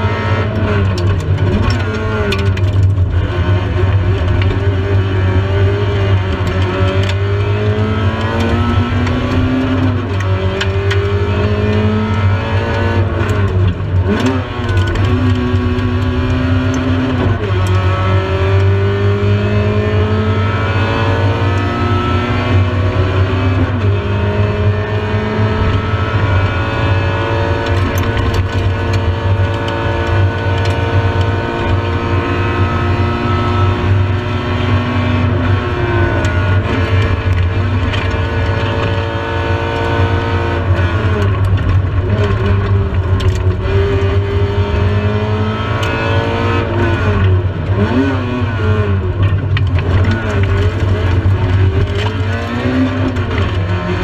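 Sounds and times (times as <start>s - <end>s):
rally car engine pulling hard: 0.0s - 54.0s.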